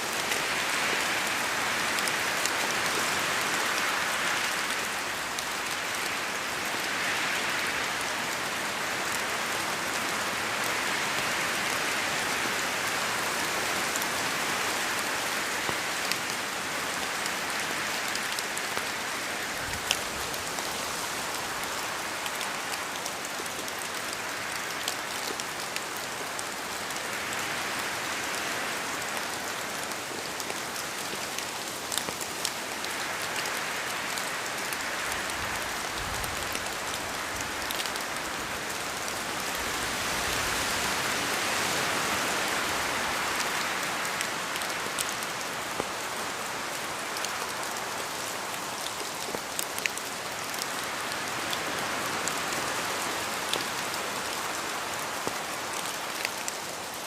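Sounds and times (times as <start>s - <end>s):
rain falling in forest: 0.0s - 57.0s
wind: 0.0s - 57.0s.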